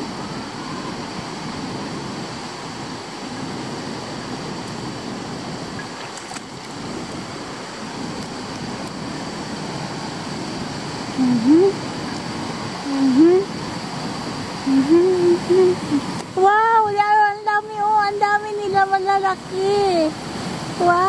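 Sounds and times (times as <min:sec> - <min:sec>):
river rushing over stones: 0:00.0 - 0:21.0
wind on microphone: 0:00.0 - 0:21.0.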